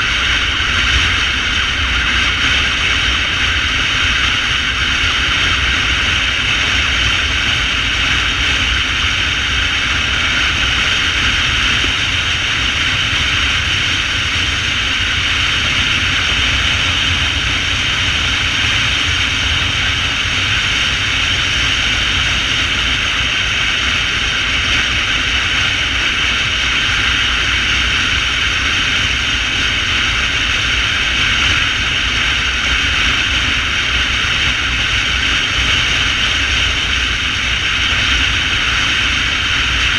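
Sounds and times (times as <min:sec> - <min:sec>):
motorcycle engine rumble: 0:00.0 - 0:39.9
rush of wind: 0:00.0 - 0:39.9.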